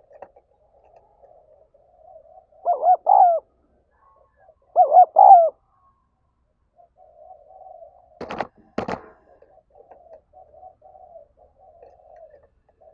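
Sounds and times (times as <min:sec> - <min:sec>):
dove cooing: 0:00.0 - 0:05.6, 0:06.7 - 0:12.9.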